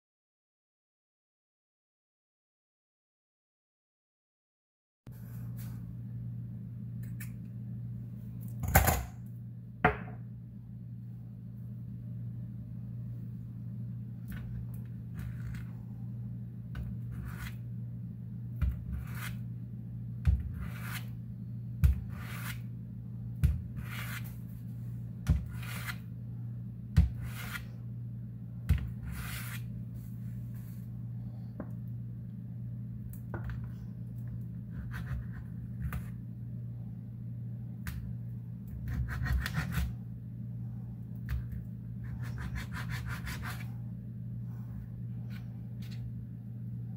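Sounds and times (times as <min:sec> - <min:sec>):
steady low hum: 0:05.1 - 0:46.9.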